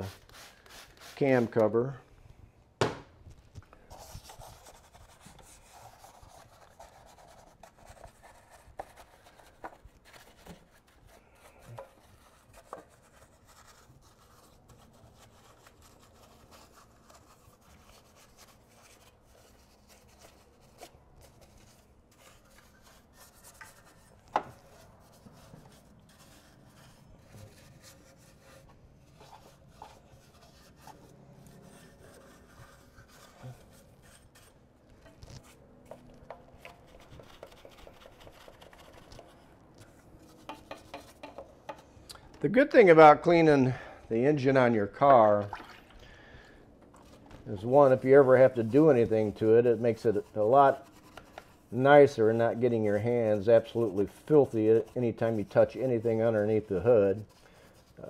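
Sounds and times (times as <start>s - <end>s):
brush scrubbing plastic and metal: 0.0s - 1.8s, 3.8s - 41.9s, 46.9s - 58.0s.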